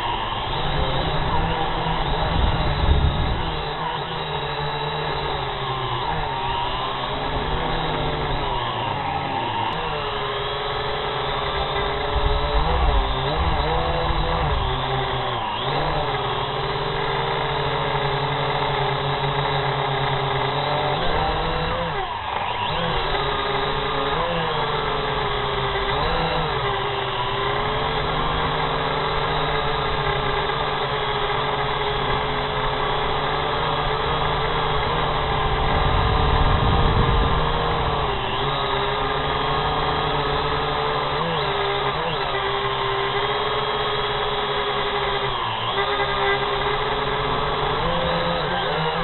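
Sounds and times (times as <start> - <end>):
drone propellers whining: 0.0 - 49.0.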